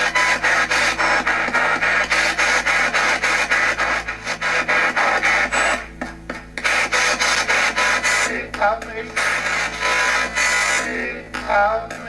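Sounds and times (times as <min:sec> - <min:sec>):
choppy radio static bursts: 0:00.0 - 0:12.0.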